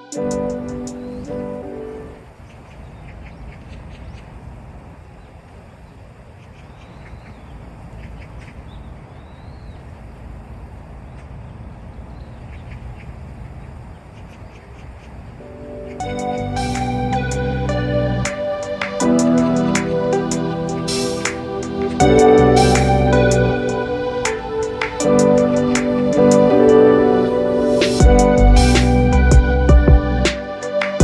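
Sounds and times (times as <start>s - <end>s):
bird calls: 0.0s - 28.0s
steady rushing background: 0.0s - 31.0s.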